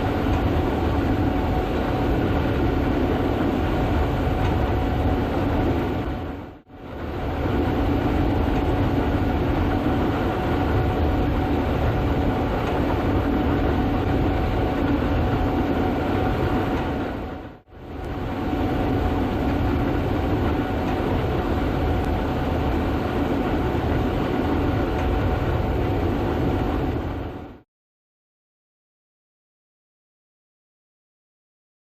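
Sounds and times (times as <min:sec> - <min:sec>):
combine harvester drone: 0:00.0 - 0:27.6
steady whining tones: 0:00.0 - 0:27.6.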